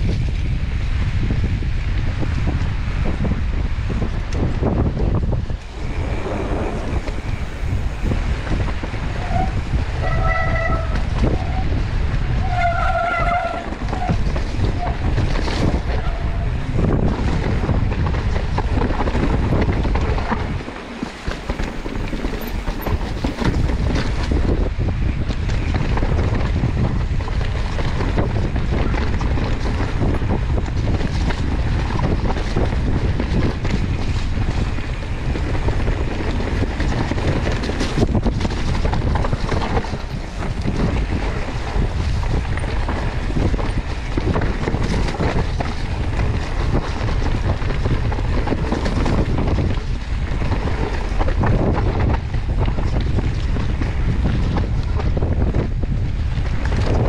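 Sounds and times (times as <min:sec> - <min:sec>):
bike rattling and knocking: 0:00.0 - 0:57.0
wind rumbling on microphone: 0:00.0 - 0:57.0
tyres over mud and roots: 0:04.0 - 0:57.0.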